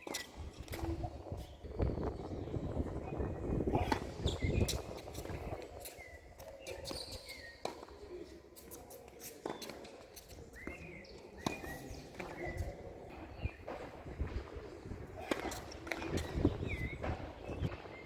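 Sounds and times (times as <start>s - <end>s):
shoes squeaking: 0.0s - 2.3s, 3.7s - 18.0s.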